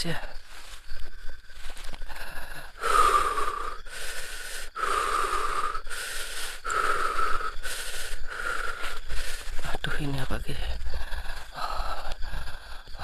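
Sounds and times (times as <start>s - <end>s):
man breathing heavily: 0.0s - 13.0s.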